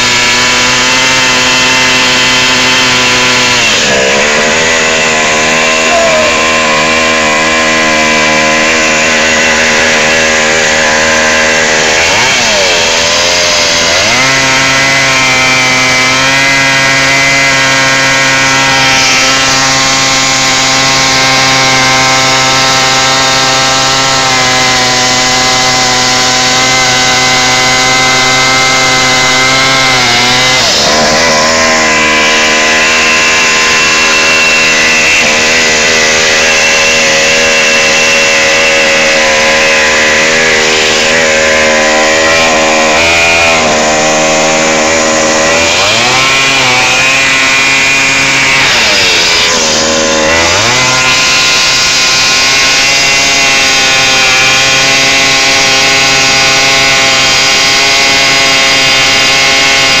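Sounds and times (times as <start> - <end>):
small engine at high revs: 0.0 - 60.0.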